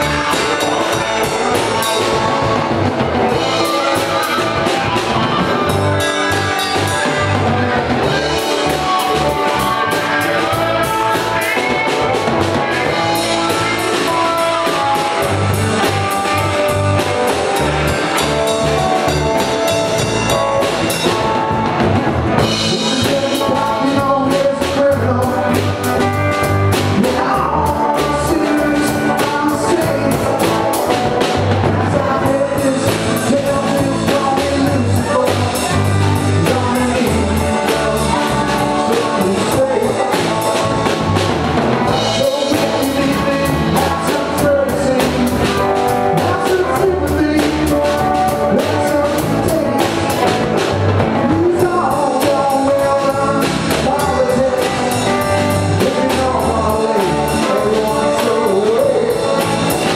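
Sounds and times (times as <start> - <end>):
man singing: 0.0 - 21.8, 22.4 - 59.9
drum kit: 0.0 - 59.9
electric guitars: 0.0 - 59.9.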